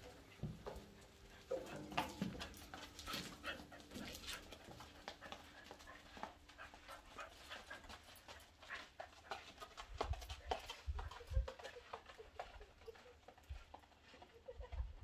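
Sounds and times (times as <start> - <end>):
dog boots tapping on concrete: 0.0 - 14.8
dog panting: 0.1 - 14.7.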